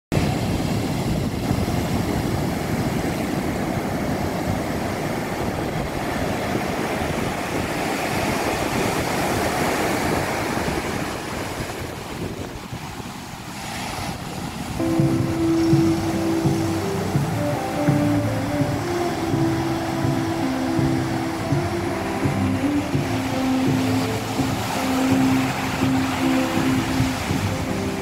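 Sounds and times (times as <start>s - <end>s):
ocean waves breaking on beach: 0.1s - 28.0s.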